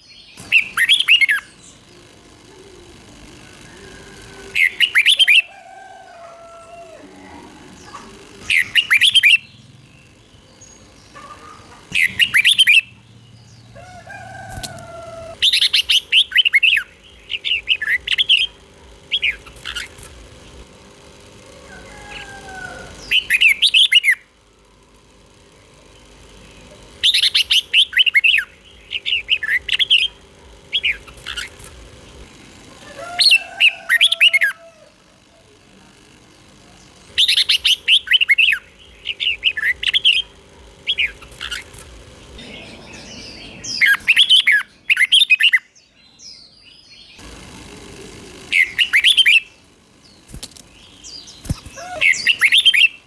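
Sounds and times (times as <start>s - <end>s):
bird singing chirpy phrases: 0.0s - 5.5s, 6.2s - 20.7s, 25.4s - 32.3s, 36.2s - 47.3s, 48.0s - 53.0s.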